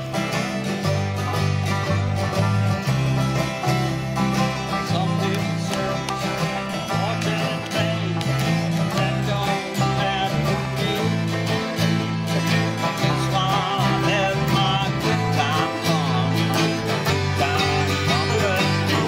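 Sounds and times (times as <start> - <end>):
acoustic guitars: 0.0 - 19.0
banjo: 0.0 - 19.0
bass line: 0.0 - 19.0.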